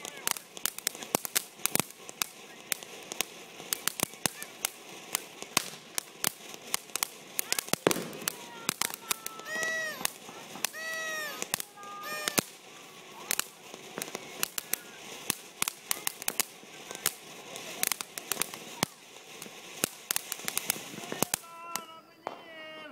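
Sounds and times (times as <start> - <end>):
firework fountain hissing and crackling: 0.0 - 22.9.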